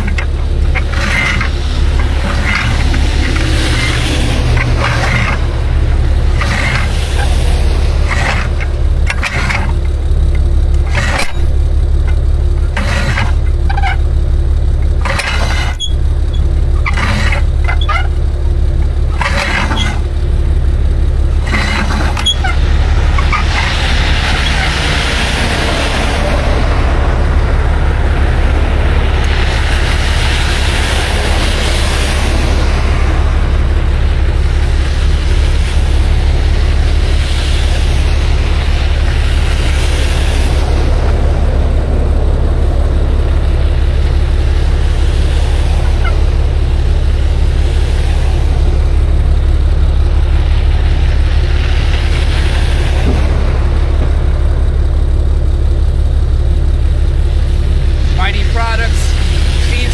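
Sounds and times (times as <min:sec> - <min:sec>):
broad rushing noise: 0:00.0 - 0:59.9
truck engine rumbling: 0:00.0 - 0:59.9.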